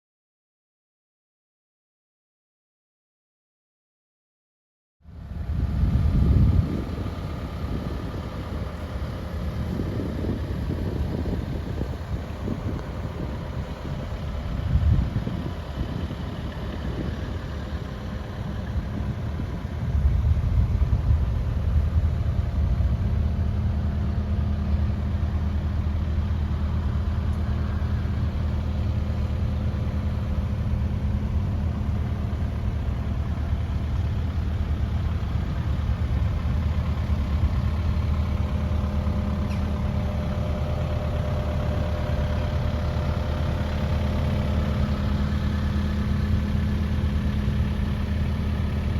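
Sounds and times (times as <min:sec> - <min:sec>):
excavator diesel engine idling: 0:05.0 - 0:48.9.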